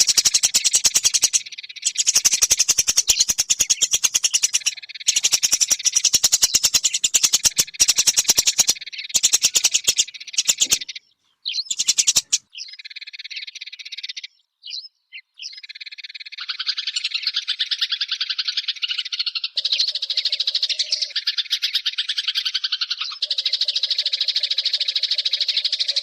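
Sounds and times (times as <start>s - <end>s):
sparrow chirping: 0.0s - 26.0s.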